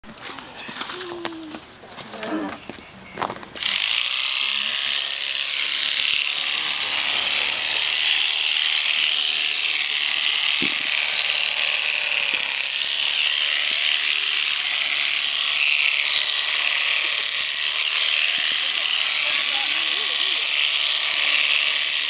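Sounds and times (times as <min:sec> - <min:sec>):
electric shears buzzing: 0:03.6 - 0:22.0.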